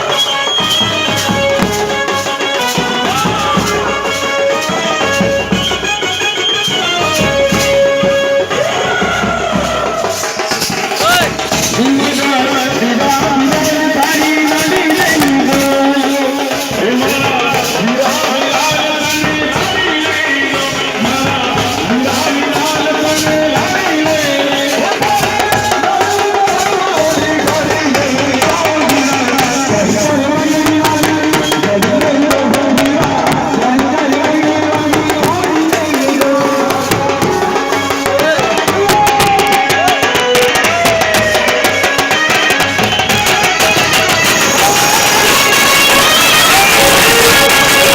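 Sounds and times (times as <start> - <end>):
drum and rattle percussion: 0.0 - 47.9.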